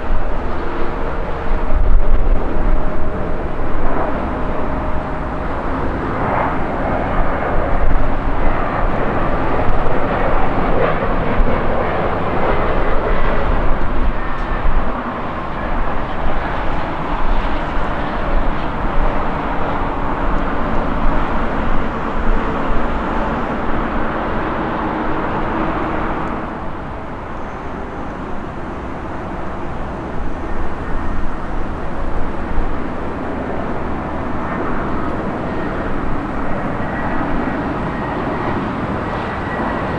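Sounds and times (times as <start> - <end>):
jet engines rumbling overhead: 0.0 - 39.9.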